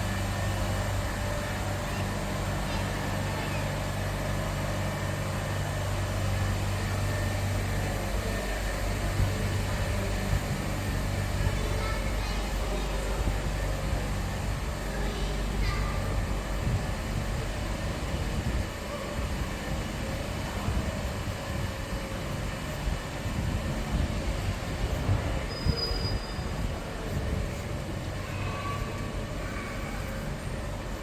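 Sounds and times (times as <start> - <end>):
vehicle rumble: 0.0 - 31.0.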